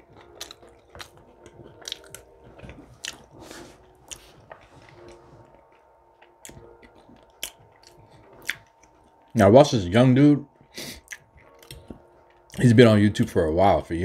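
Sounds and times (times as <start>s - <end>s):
chewing and biting food: 0.0s - 9.4s, 10.6s - 12.7s.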